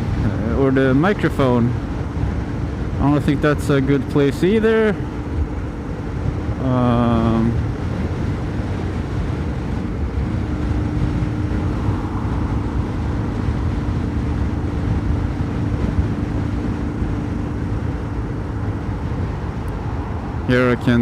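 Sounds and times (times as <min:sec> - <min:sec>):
wind noise on helmet: 0:00.0 - 0:21.0.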